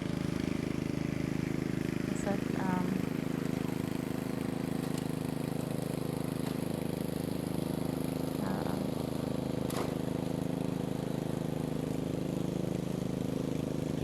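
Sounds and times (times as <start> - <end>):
small gasoline engine running: 0.0 - 14.0.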